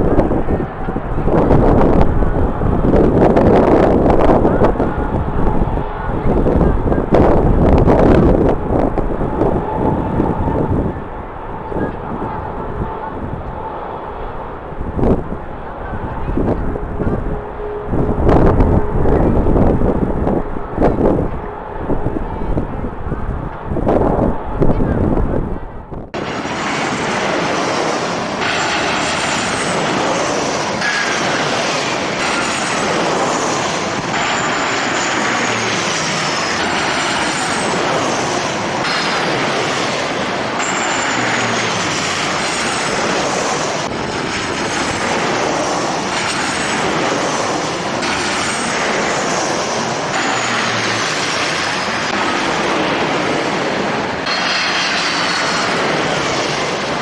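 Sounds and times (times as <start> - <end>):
high whine sliding down: 0.0 - 57.0
jet engines running: 0.0 - 57.0.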